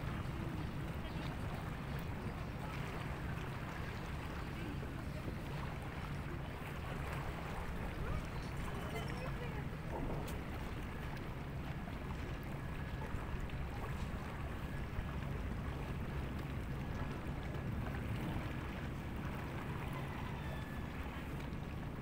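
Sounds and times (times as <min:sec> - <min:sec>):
water: 0:00.0 - 0:22.0
wind: 0:00.0 - 0:22.0.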